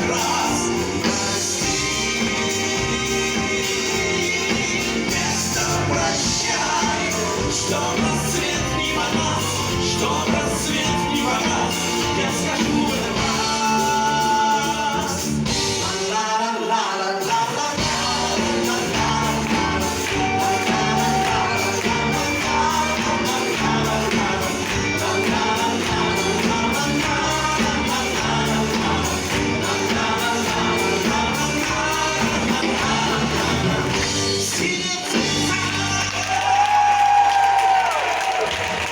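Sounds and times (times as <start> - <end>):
person singing: 0.0 - 37.4
live pop band playing: 0.0 - 38.9.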